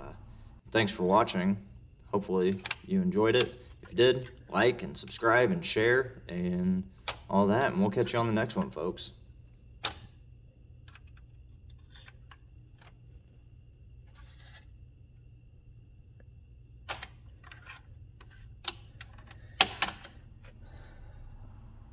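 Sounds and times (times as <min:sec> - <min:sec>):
faint hum: 0:00.0 - 0:21.9.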